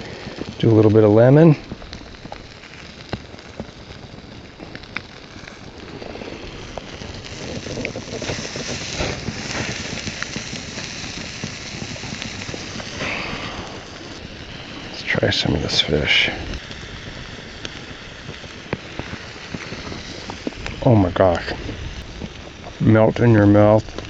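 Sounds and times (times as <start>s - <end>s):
campfire crackling and popping: 0.0s - 24.0s
fire hissing: 0.0s - 24.0s.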